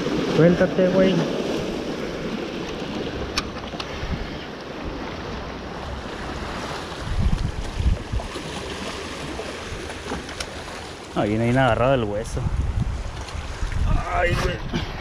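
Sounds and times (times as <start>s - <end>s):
wind buffeting microphone: 0.0s - 9.9s, 11.2s - 15.0s
surf washing against rocks: 0.0s - 15.0s.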